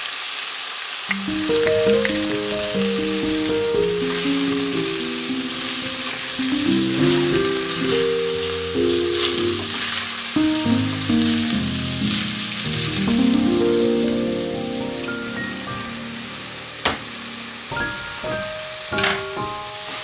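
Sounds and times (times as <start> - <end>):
food frying sizzle: 0.0 - 20.0
soft background music: 1.1 - 20.0.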